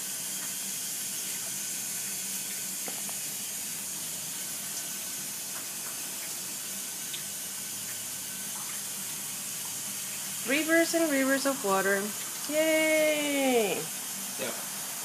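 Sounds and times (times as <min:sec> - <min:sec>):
water hissing out of a heater: 0:00.0 - 0:15.0.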